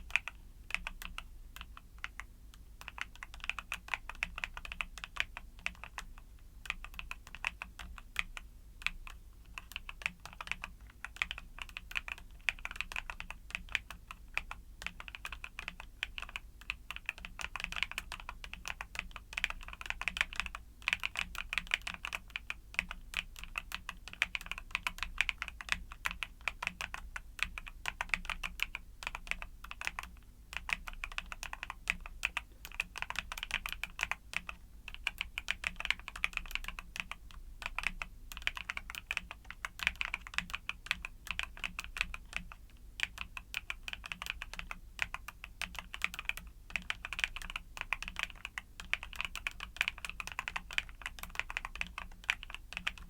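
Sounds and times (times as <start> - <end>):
mechanical keyboard typing: 0.0 - 53.0.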